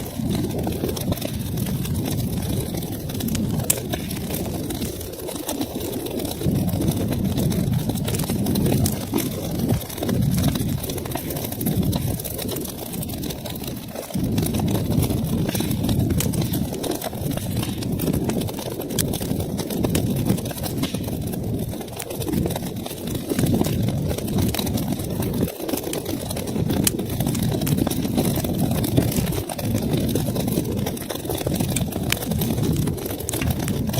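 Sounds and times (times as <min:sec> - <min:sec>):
fire crackling and popping: 0:00.0 - 0:33.9
fire flames rumbling: 0:00.0 - 0:33.9.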